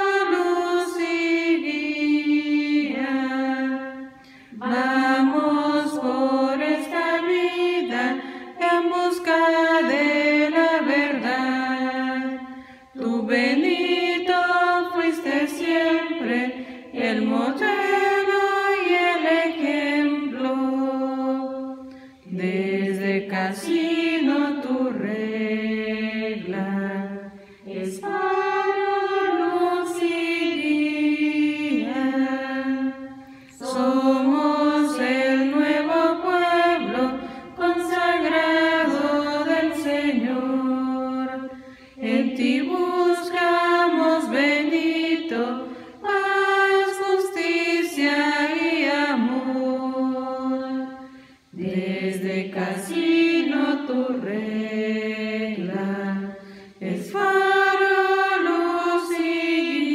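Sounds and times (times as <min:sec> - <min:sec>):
choir singing a hymn a cappella: 0:00.0 - 0:59.9.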